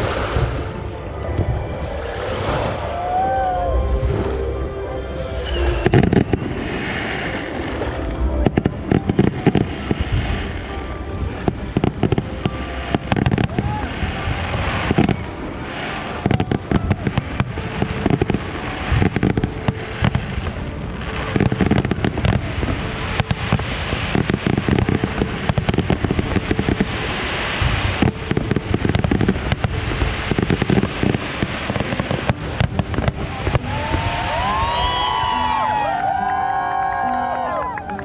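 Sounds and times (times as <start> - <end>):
fireworks bursting: 0.0 - 37.2
music playing: 0.0 - 38.0.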